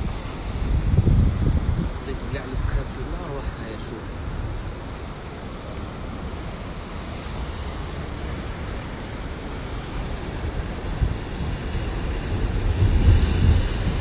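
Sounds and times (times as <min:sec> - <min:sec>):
waves breaking on rocks: 0:00.0 - 0:14.0
wind rumbling on microphone: 0:00.0 - 0:14.0.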